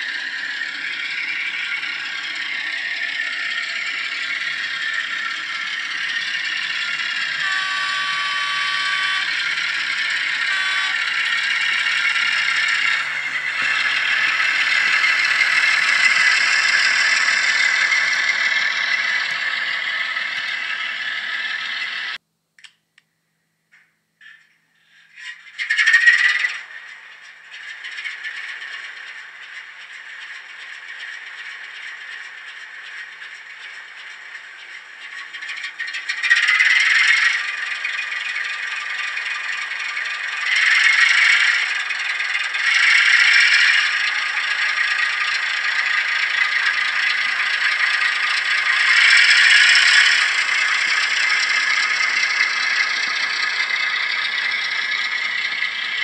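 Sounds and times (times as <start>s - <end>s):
model train wheels rattling: 0.0s - 22.2s, 23.7s - 56.0s
diesel shunter sound from small speaker: 0.0s - 22.7s, 24.2s - 56.0s.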